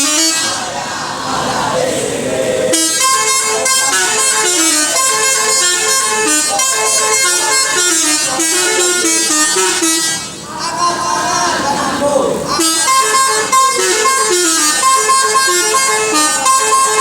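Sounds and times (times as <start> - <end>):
bus air horn playing melody: 0.0 - 0.7, 2.7 - 11.6, 12.4 - 17.0.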